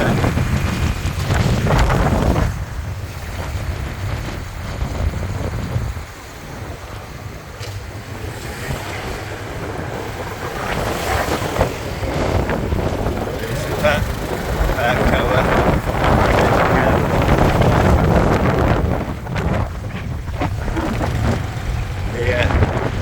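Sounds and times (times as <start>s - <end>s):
motorbike engine: 0.0s - 23.0s
road noise: 0.0s - 23.0s
wind buffeting microphone: 0.0s - 23.0s.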